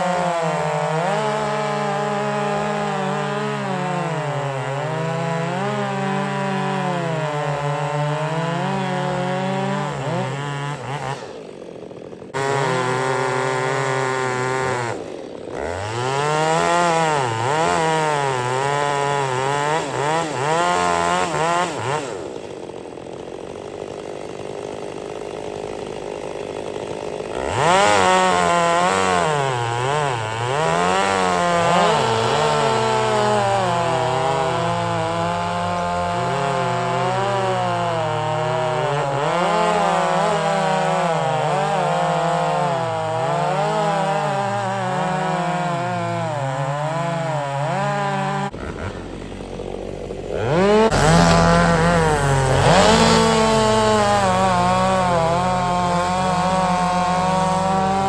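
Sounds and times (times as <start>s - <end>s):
chainsaw running and cutting: 0.0s - 58.0s.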